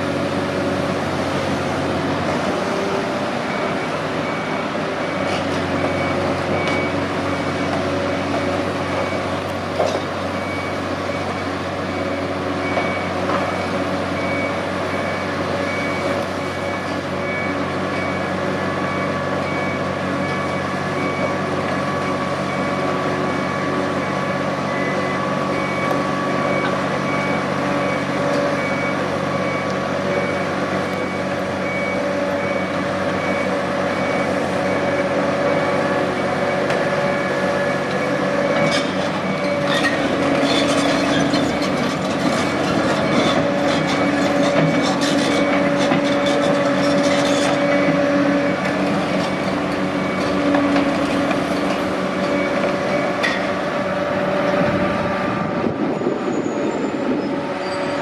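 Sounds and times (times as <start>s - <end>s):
heavy construction machinery running: 0.0s - 58.0s
reversing alarm beeping: 0.0s - 58.0s.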